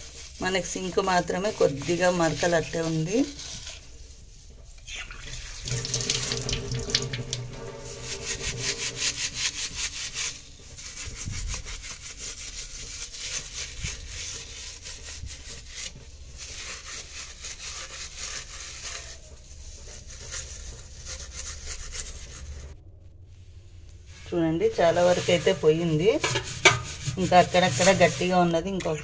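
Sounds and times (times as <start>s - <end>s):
scrubber scouring steel sink: 0.0s - 22.8s, 24.1s - 29.0s.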